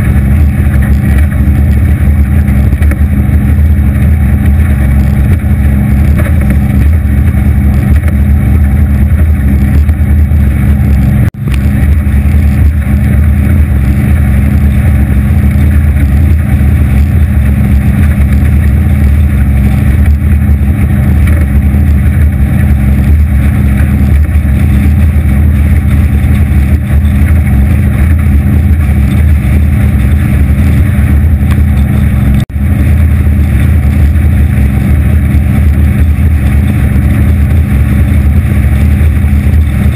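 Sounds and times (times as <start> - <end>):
hull crossing choppy water: 0.0 - 39.9
outboard motor running: 0.0 - 39.9
wind: 0.0 - 39.9.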